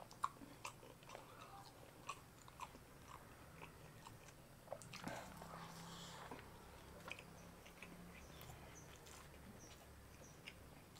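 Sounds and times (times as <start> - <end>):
person chewing food: 0.0 - 10.9.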